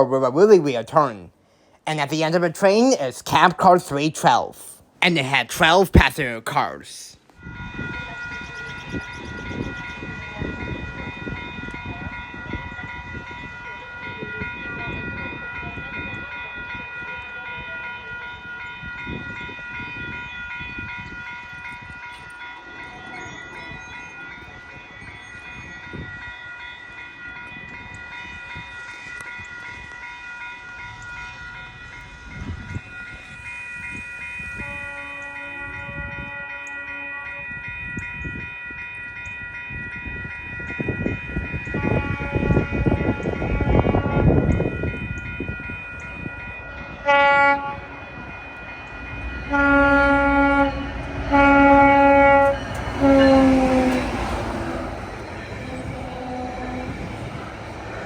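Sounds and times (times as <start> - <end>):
crossing bells ringing: 1.9 - 58.0.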